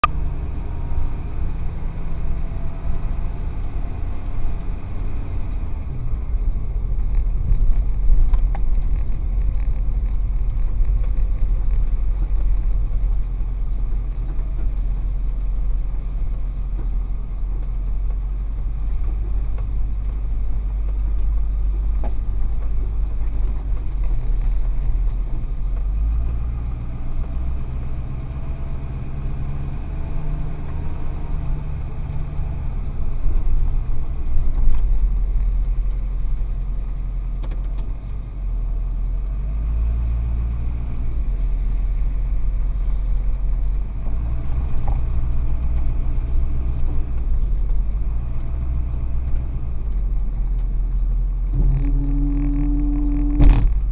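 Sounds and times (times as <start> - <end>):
truck engine rumbling: 0.0 - 53.9.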